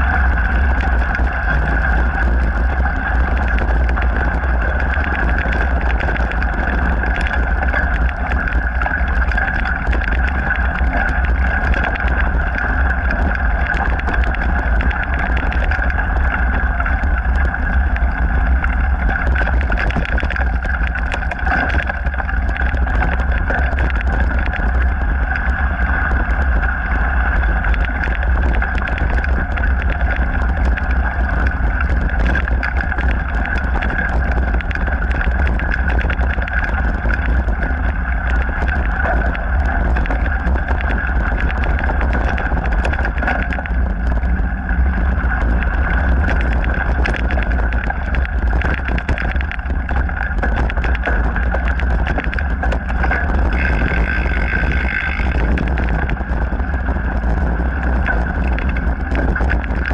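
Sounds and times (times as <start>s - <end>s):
bike rattling and clicking: 0.0s - 59.9s
tyre and wind rumble: 0.0s - 59.9s.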